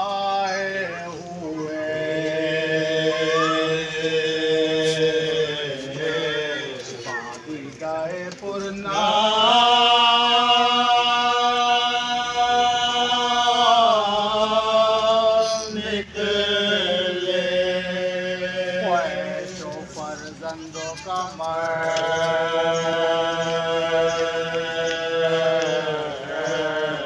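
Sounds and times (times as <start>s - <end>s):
voices chanting an elegy: 0.0s - 27.0s.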